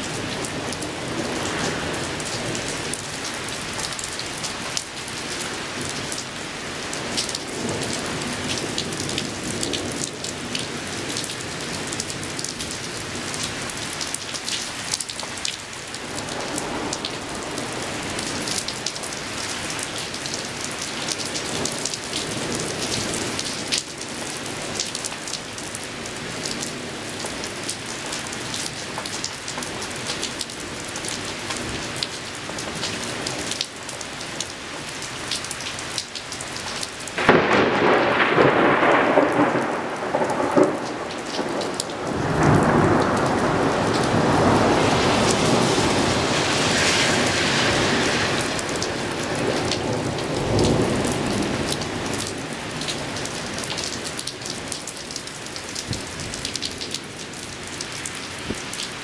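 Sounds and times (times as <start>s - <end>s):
raindrops ticking close by: 0.0s - 45.4s, 48.4s - 59.0s
heavy rain falling: 0.0s - 59.0s.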